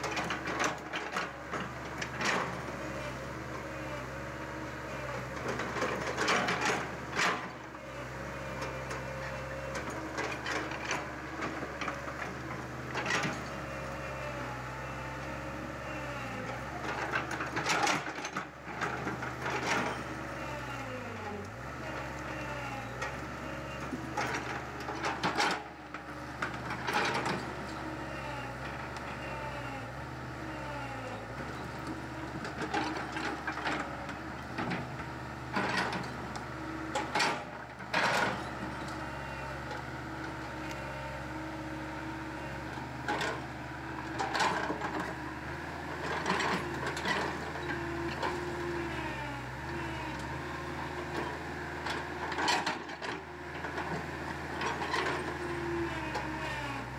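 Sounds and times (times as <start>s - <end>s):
excavator engine drone: 0.0s - 56.9s.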